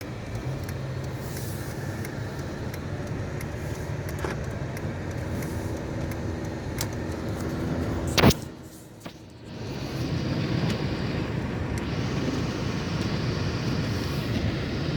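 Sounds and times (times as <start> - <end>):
car engine and road rumble: 0.0 - 14.9.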